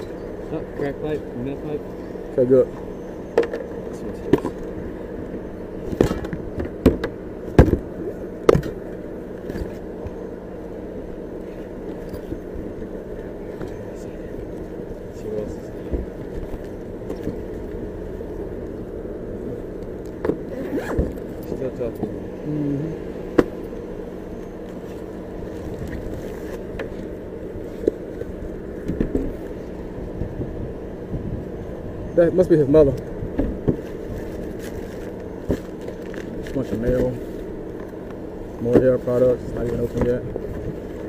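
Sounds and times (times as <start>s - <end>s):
vehicle idling hum: 0.0s - 41.0s.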